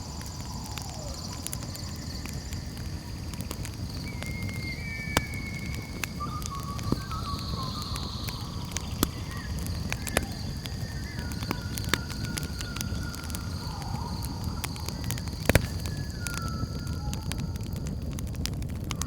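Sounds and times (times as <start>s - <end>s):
faint whistled calls: 0.0s - 18.2s
campfire crackling and popping: 0.0s - 19.0s
night insects droning: 0.0s - 19.0s.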